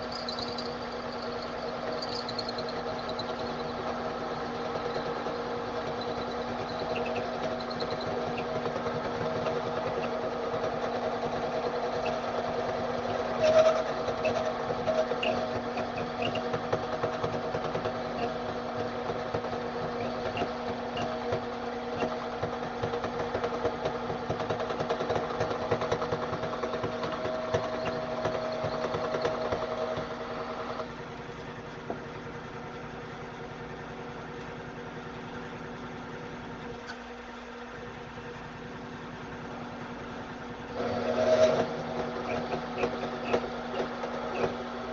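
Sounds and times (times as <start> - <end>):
metal lathe humming: 0.0 - 32.8, 39.2 - 44.9.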